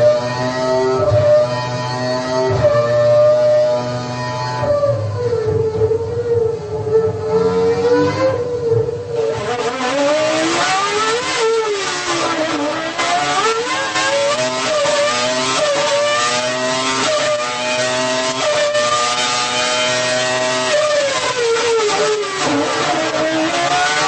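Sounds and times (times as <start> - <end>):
racing car engine revving: 0.0 - 24.0.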